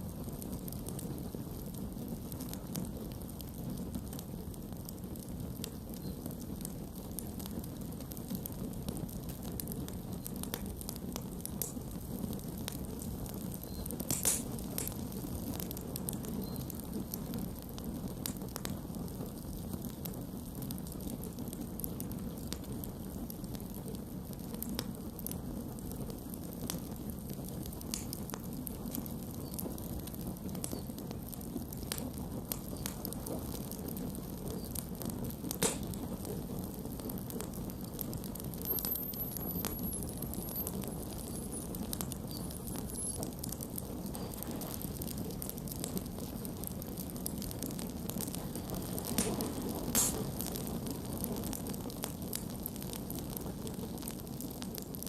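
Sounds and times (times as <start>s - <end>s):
campfire rumble: 0.0s - 55.0s
wood crackling and popping: 0.0s - 55.0s.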